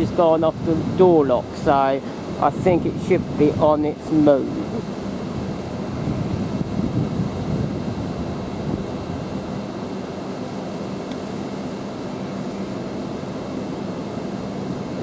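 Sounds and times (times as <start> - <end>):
train low rumble and hum: 0.0 - 15.0.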